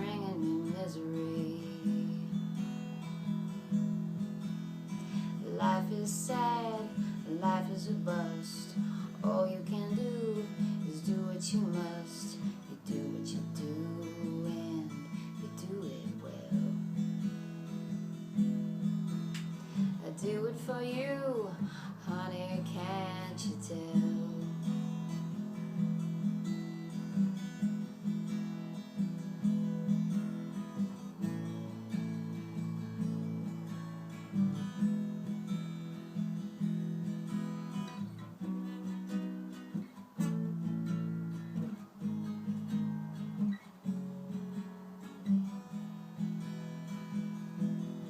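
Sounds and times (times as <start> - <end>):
acoustic guitar playing: 0.0 - 48.0.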